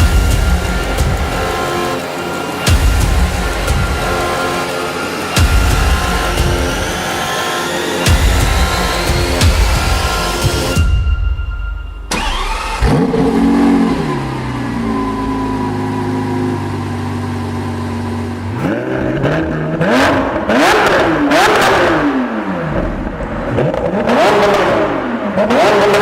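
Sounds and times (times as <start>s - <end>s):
car engine starting and revving: 0.0s - 10.9s, 12.0s - 26.0s.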